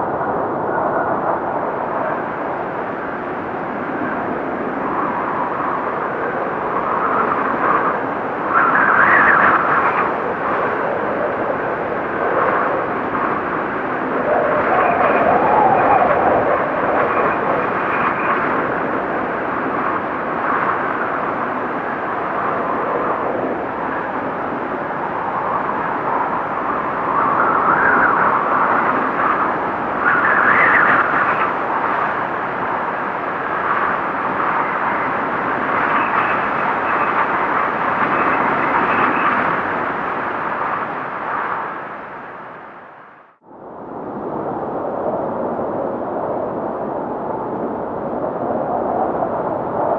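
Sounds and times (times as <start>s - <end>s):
blizzard wind howling: 0.0s - 49.9s.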